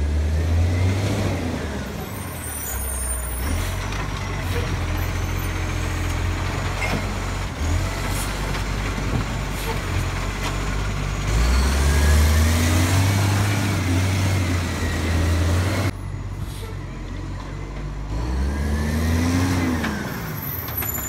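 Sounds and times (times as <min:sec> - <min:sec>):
garbage truck diesel engine accelerating: 0:00.0 - 0:21.0.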